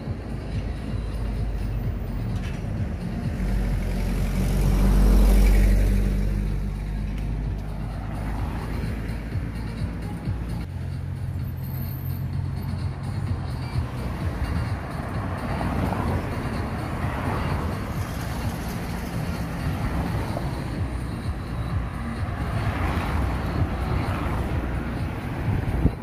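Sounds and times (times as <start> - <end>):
cars driving past: 0.0 - 26.0.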